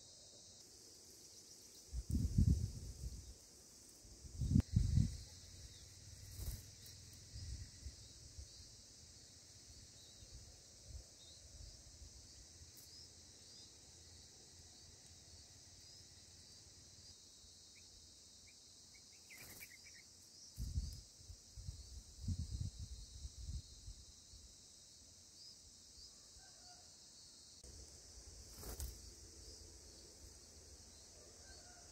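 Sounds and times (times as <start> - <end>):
insect chorus: 0.0 - 31.9.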